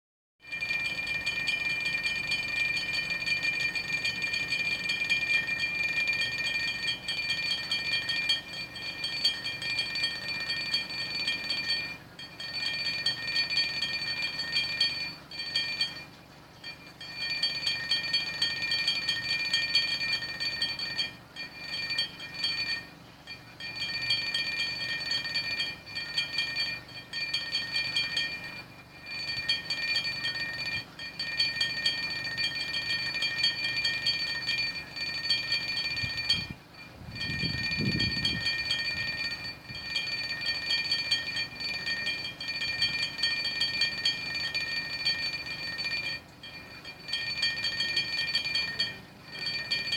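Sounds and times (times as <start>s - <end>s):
glasses clinking together: 0.5s - 49.9s
washing machine humming: 0.5s - 49.9s.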